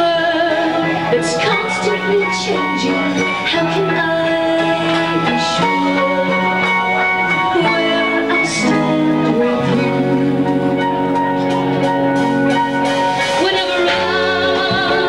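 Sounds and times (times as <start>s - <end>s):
woman singing into microphone: 0.0s - 11.4s, 13.2s - 15.0s
live band playing: 0.0s - 15.0s.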